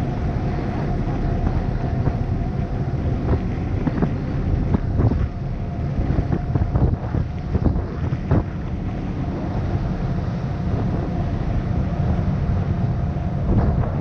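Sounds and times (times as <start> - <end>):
boat engine running: 0.0 - 14.0
water rushing along hull: 0.0 - 14.0
wind buffeting microphone: 0.0 - 14.0.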